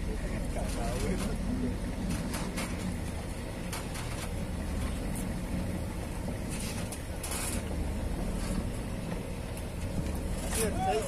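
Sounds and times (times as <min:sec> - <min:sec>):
lorry engine rumbling: 0:00.0 - 0:11.0
rattles and scrapes: 0:00.1 - 0:11.0.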